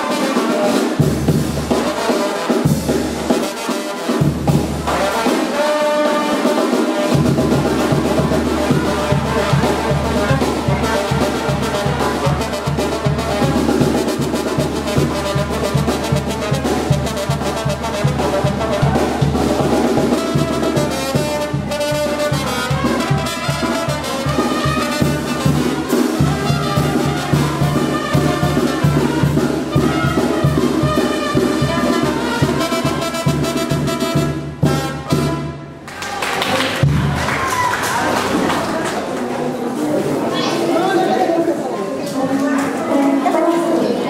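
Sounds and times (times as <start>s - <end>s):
brass band dance music: 0.0s - 41.6s.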